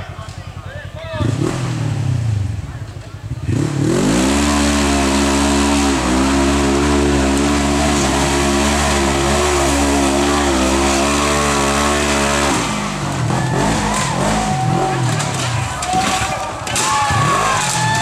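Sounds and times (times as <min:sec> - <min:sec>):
utility vehicle engine revving: 0:01.1 - 0:18.0.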